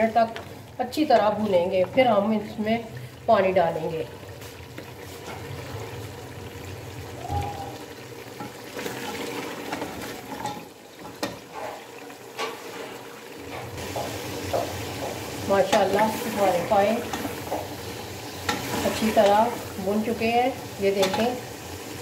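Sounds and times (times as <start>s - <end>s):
meat sizzling in oil: 0.0s - 22.0s.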